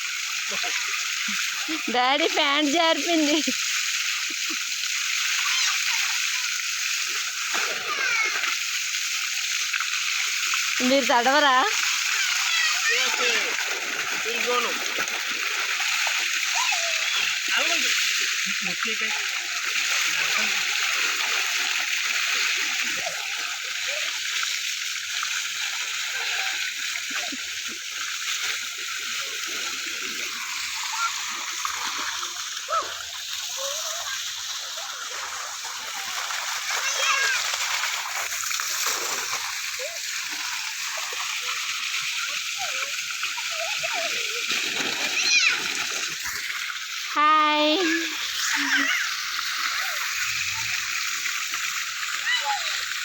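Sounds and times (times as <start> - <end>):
water running and splashing: 0.0 - 53.0.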